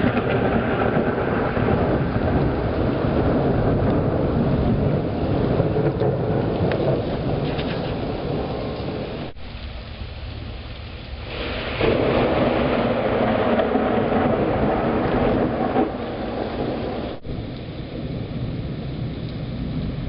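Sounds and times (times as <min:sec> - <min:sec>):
rain hissing: 0:00.0 - 0:20.0
thunder rumbling: 0:00.0 - 0:20.0.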